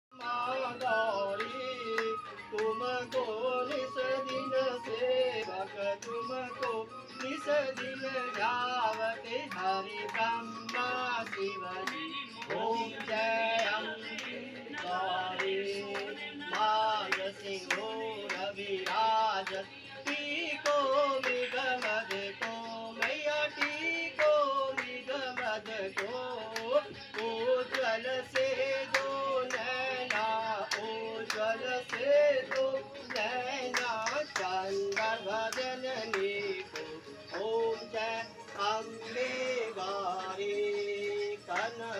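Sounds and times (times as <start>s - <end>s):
devotional singing with music: 0.1s - 41.9s
rhythmic hand clapping: 0.1s - 41.9s.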